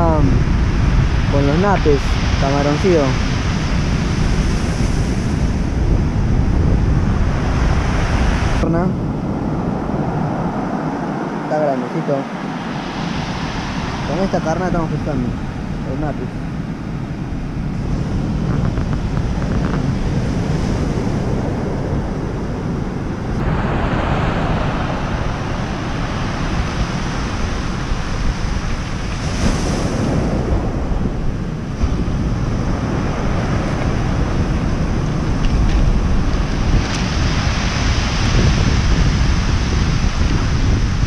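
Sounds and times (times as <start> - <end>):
surf breaking on stony beach: 0.0 - 41.0
wind rumbling on microphone: 0.0 - 41.0.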